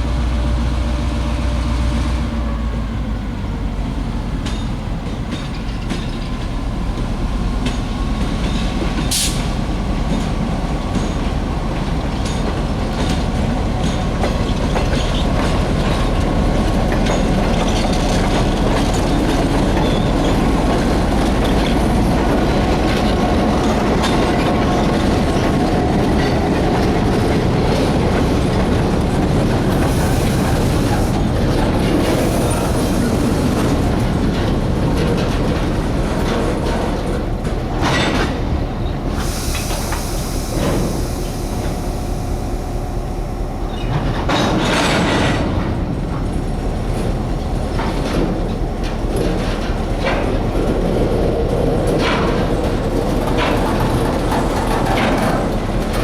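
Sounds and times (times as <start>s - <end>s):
railroad cars rolling on track: 0.0s - 56.0s.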